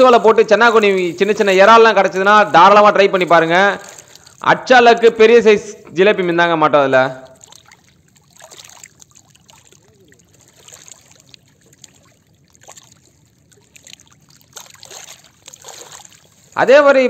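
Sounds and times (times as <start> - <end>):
water lapping against stones: 0.0 - 5.2, 7.2 - 16.6.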